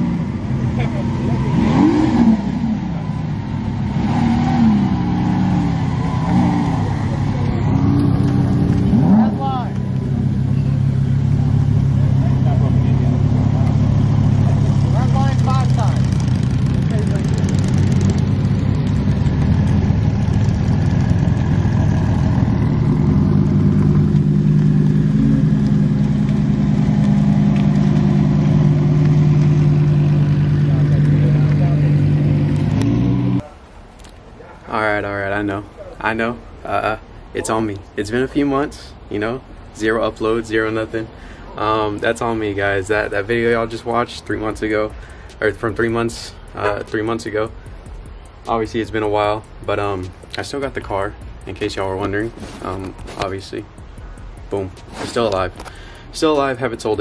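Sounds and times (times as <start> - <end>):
car engines revving: 0.0 - 33.5, 40.6 - 57.0.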